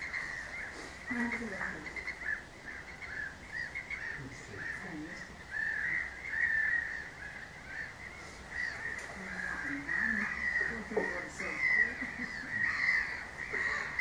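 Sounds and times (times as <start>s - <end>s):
flock of geese calling: 0.0s - 14.0s.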